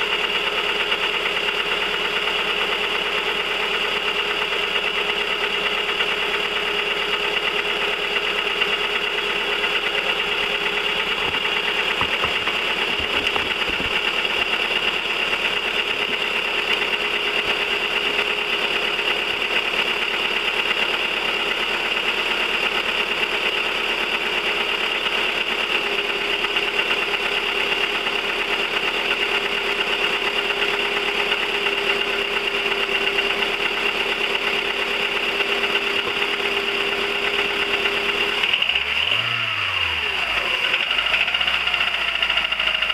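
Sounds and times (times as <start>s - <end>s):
car engine idling: 0.0s - 42.9s
rapid engine ticking: 0.0s - 42.9s.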